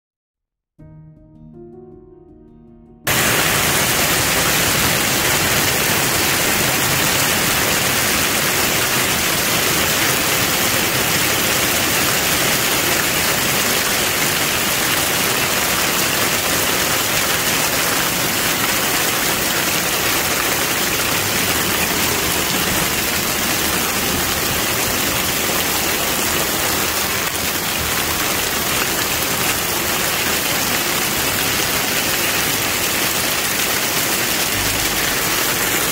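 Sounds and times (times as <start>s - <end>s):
hail and heavy rain pelting: 3.1s - 35.9s.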